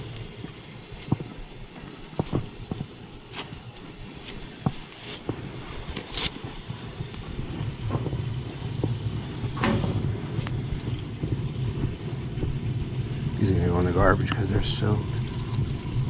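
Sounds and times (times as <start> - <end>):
boiler humming: 0.0 - 16.0.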